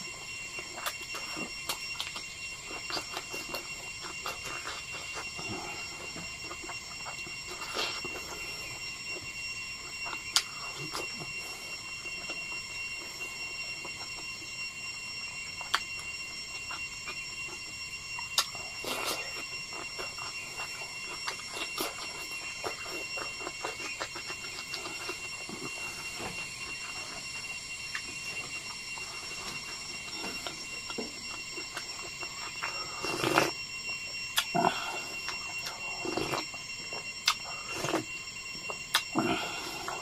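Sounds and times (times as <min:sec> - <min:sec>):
high-pitched whine: 0:00.0 - 0:40.0
man chewing food: 0:00.0 - 0:40.0.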